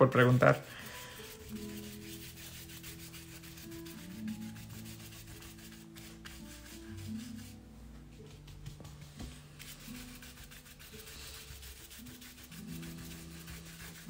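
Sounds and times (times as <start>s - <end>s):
paintbrush scrubbing on paper: 0.0s - 7.6s, 8.2s - 14.0s
soft background music: 0.0s - 14.0s.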